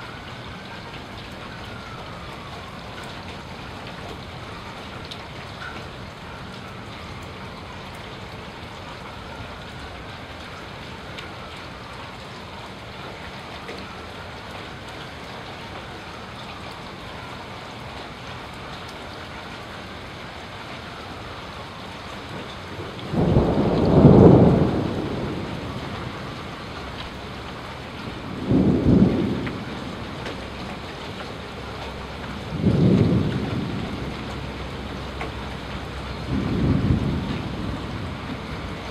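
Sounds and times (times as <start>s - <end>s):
faint siren wailing: 0.0s - 38.9s
steady rain falling: 0.0s - 38.9s.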